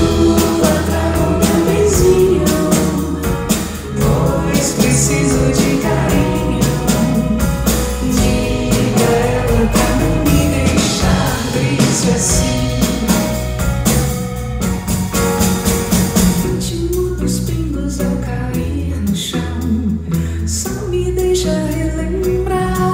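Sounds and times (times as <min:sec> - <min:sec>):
woman singing: 0:00.0 - 0:13.4, 0:16.5 - 0:22.9
live pop band playing: 0:00.0 - 0:22.9.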